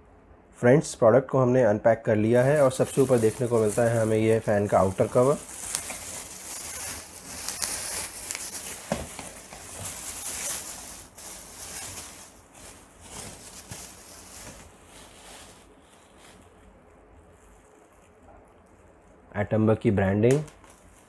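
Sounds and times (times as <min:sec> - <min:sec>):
plastic wrapping rustling: 0:02.2 - 0:19.3, 0:20.4 - 0:21.0.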